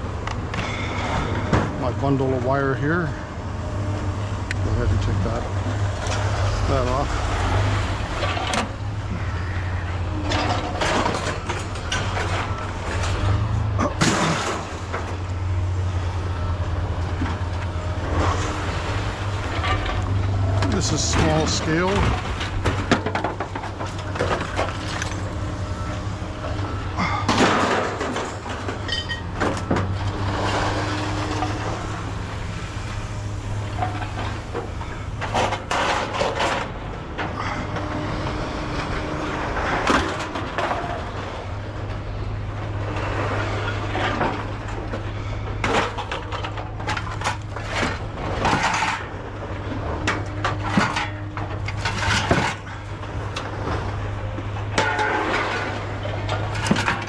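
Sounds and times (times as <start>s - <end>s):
scrap metal clanking and rattling: 0.0s - 57.0s.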